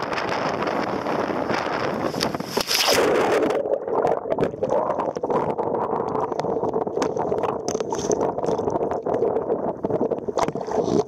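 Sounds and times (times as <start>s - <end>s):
muffled underwater water gurgling: 0.0s - 11.0s
small clicks and knocks underwater: 1.5s - 11.0s.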